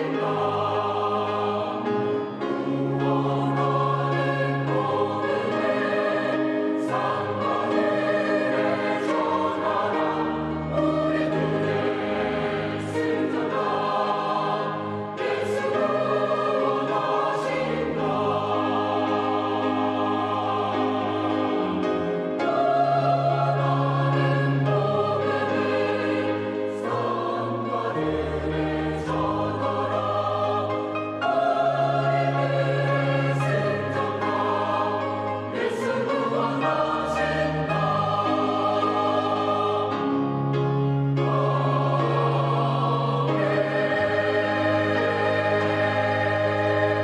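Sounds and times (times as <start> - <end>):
church choir singing chords: 0.0 - 47.0.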